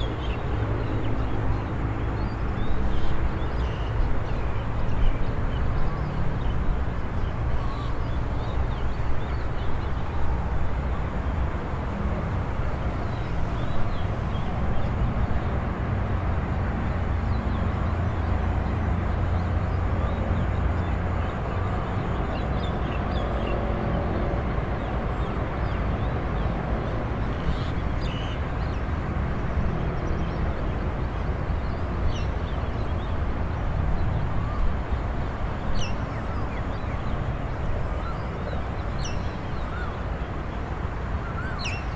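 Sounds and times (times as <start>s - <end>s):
distant traffic rumble: 0.0s - 41.9s.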